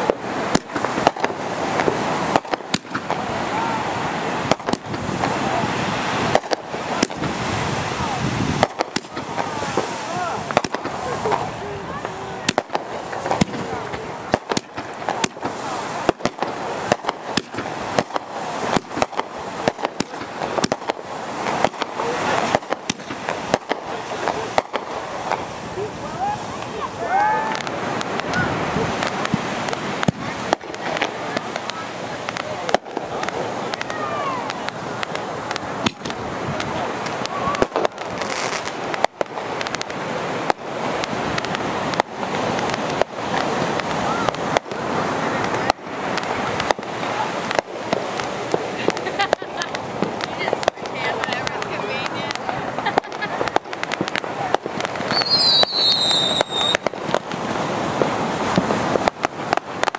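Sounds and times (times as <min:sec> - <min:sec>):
fireworks bangs and pops: 0:00.0 - 0:59.9
steady hiss: 0:00.0 - 0:59.9.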